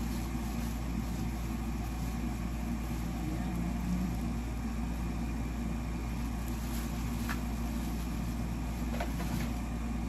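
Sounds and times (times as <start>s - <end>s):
plastic wrap crinkles: 0.0s - 4.4s, 6.1s - 9.8s
appliance humming: 0.0s - 10.0s.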